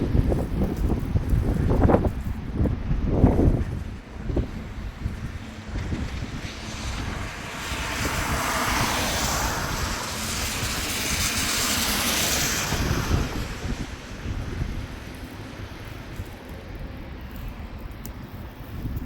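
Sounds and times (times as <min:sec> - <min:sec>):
broad rushing noise: 0:00.0 - 0:19.0
storm wind buffeting microphone: 0:00.0 - 0:19.0.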